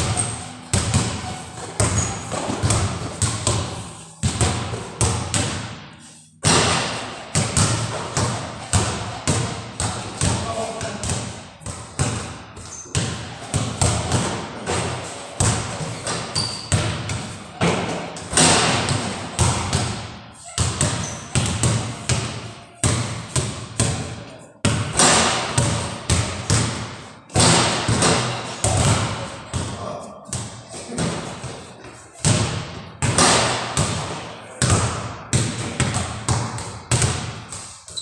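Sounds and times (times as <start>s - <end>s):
basketballs bouncing on hard floor: 0.0s - 38.0s.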